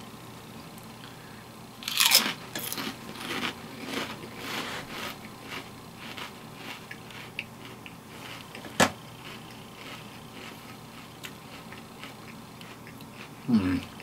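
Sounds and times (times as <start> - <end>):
potato chip crunching: 1.8 - 13.9.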